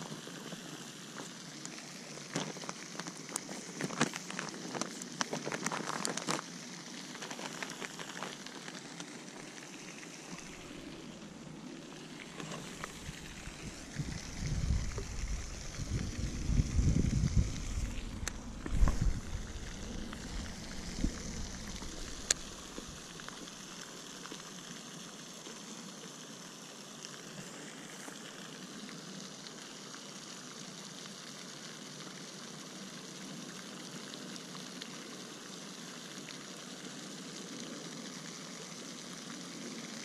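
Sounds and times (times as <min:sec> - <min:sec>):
fountain water spray hiss: 0:00.0 - 0:40.0.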